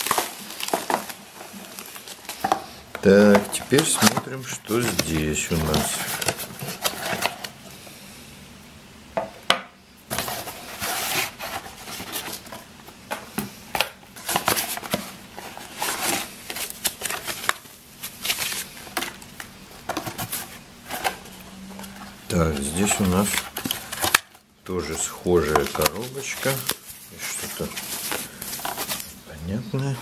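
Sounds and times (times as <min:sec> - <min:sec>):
packaging rustling: 0:00.0 - 0:07.7, 0:10.1 - 0:29.3.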